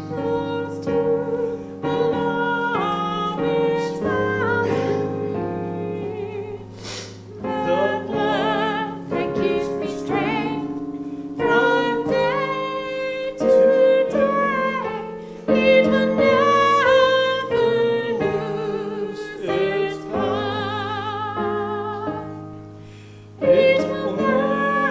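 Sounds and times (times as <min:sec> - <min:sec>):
person singing with vibrato: 0:00.0 - 0:22.4, 0:23.3 - 0:24.9
piano accompaniment: 0:00.0 - 0:24.9.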